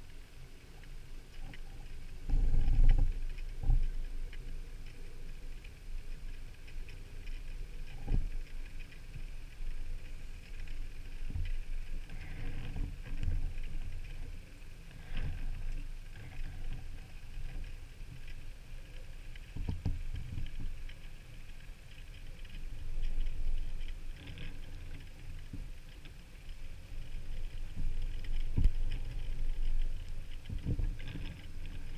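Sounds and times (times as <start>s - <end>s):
faint crackling: 0.0s - 31.9s
low rumble of moving water: 0.0s - 31.9s.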